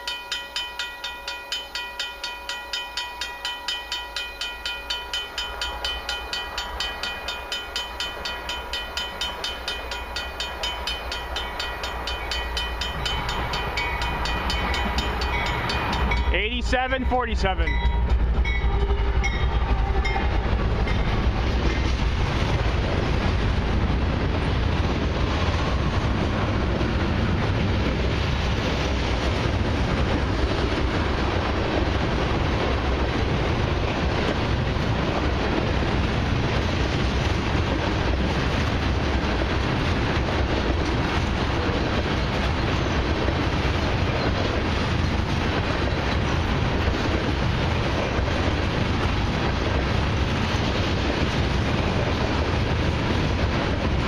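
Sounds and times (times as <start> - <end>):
diesel locomotive passing: 0.0 - 54.0
freight train wheels rumbling: 0.0 - 54.0.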